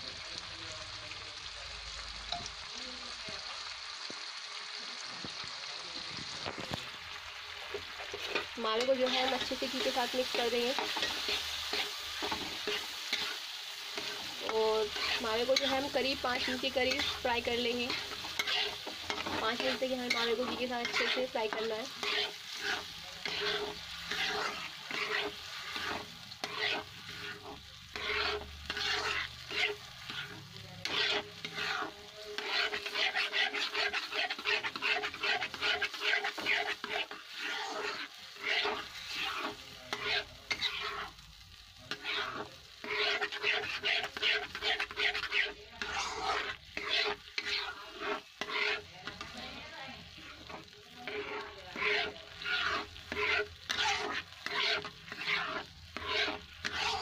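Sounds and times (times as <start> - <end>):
spatula scraping and stirring: 6.2 - 57.0.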